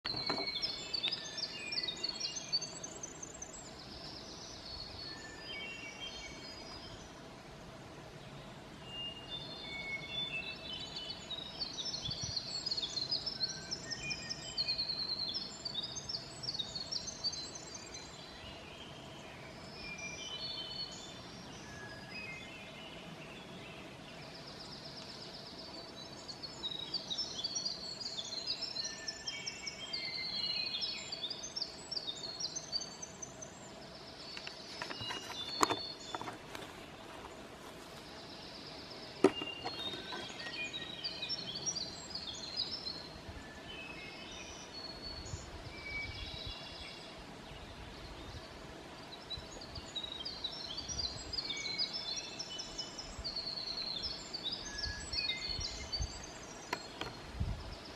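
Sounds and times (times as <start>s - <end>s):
songbirds singing: 0.0s - 57.9s.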